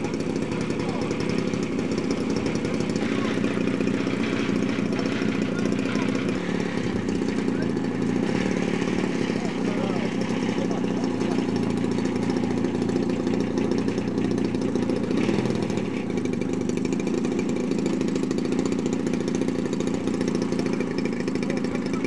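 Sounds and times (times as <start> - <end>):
model plane engine idling: 0.0 - 22.0.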